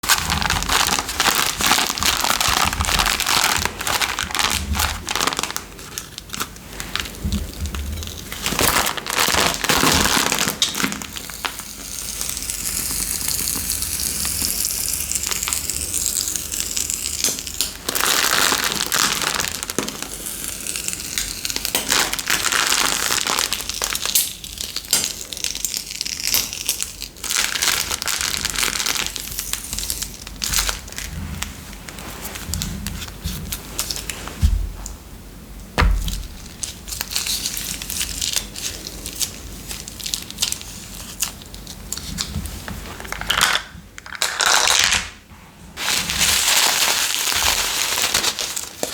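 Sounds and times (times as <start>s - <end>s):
crunching and crackling clicks: 0.0s - 35.0s, 35.9s - 45.2s.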